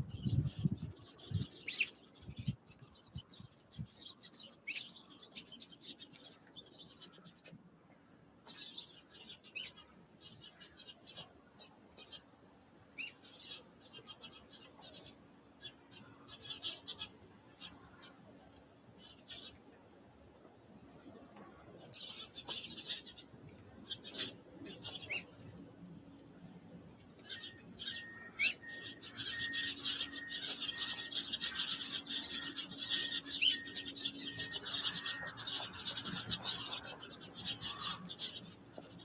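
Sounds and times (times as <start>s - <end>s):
songbirds twittering: 0.0s - 19.9s, 20.6s - 39.0s.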